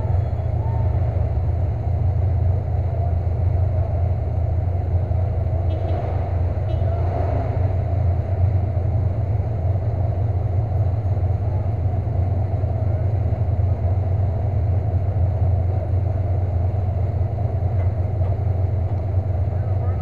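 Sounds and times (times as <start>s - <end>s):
truck engine idling: 0.0s - 7.0s, 7.7s - 20.0s.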